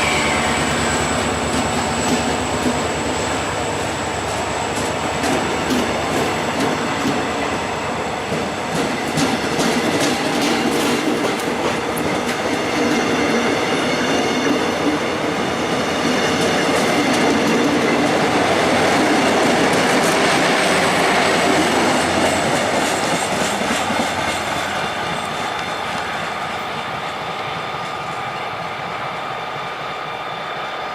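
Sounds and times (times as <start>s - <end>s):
train wheels clattering over rail joints: 0.0s - 28.6s.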